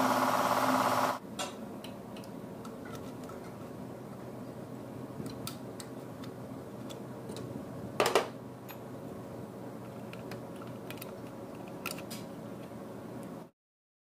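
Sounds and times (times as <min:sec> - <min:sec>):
steady background hum: 0:00.0 - 0:13.5.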